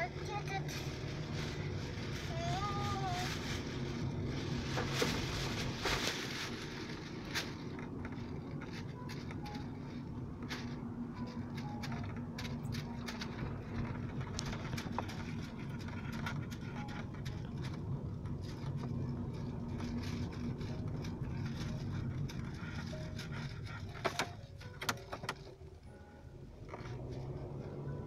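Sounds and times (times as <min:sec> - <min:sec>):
car engine hum and road noise: 0:00.0 - 0:28.0.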